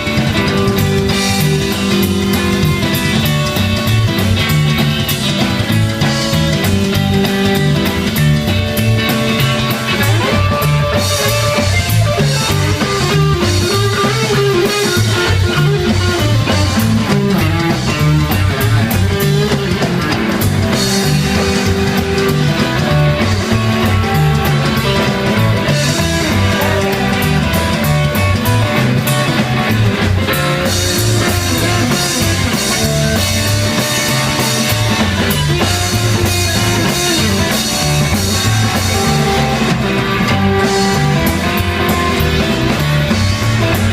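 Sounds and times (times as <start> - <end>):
electric guitar: 0.0 - 43.9
live rock band playing: 0.0 - 43.9.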